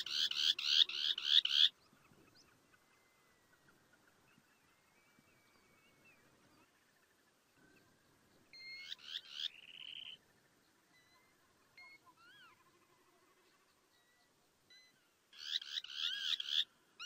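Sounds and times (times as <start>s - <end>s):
bird song with fast trill: 0.0s - 16.7s
birds calling: 0.0s - 17.0s.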